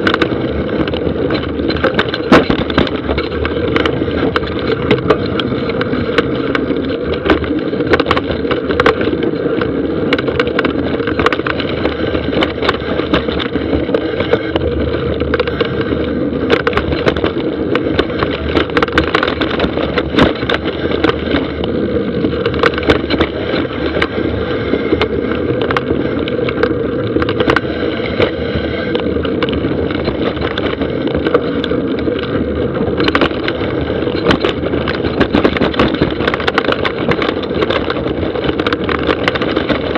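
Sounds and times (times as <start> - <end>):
bike knocking and rattling: 0.0 - 39.9
bike tyres rumbling on dirt: 0.0 - 39.9
wind: 0.0 - 39.9.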